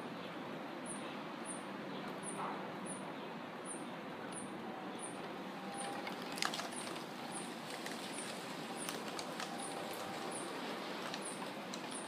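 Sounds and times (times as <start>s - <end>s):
wind rustling leaves: 0.0s - 12.0s.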